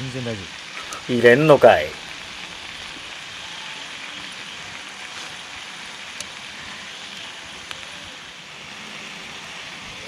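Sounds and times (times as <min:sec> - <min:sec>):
rain falling on a tent: 0:00.0 - 0:10.0.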